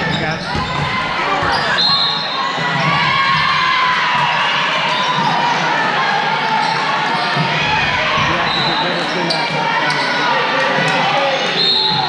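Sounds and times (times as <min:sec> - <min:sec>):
crowd cheering and yelling: 0:00.0 - 0:12.0.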